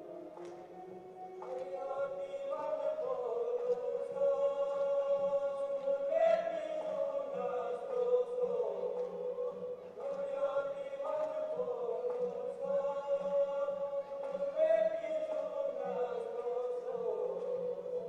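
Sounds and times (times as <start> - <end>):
hand clapping: 0.2 - 18.0
men chanting in unison: 1.9 - 18.0.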